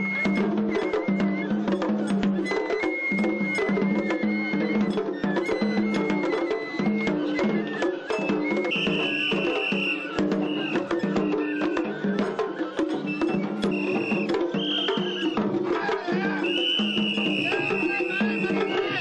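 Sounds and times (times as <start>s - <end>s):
high flute playing held notes: 0.0s - 15.5s, 16.3s - 19.0s
rapid drum and clapper strokes: 0.0s - 19.0s.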